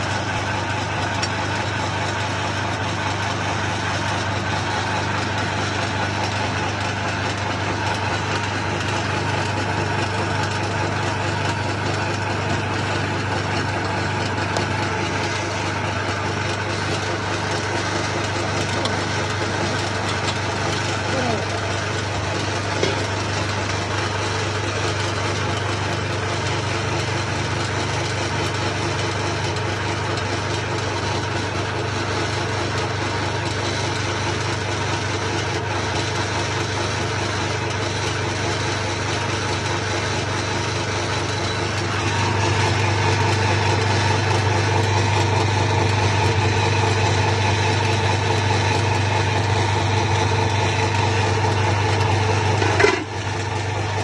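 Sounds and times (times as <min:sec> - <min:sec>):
pellet mill drone: 0:00.0 - 0:54.0.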